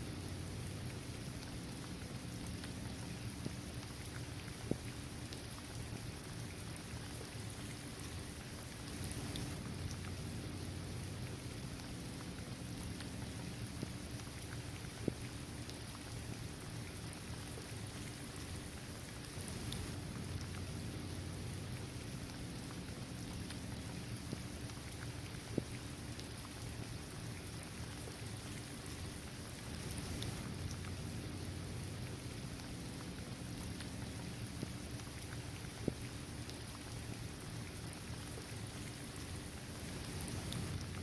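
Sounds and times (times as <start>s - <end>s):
rain falling on pavement: 0.0s - 41.0s.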